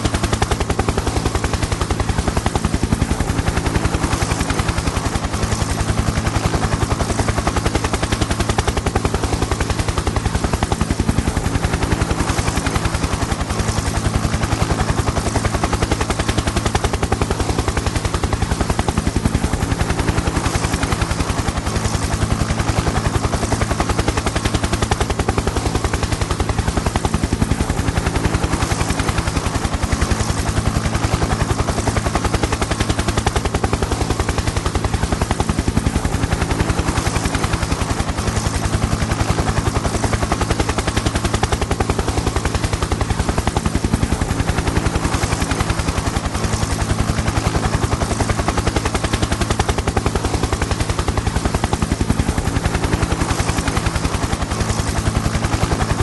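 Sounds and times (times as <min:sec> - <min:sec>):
helicopter rotor chopping: 0:00.0 - 0:56.0.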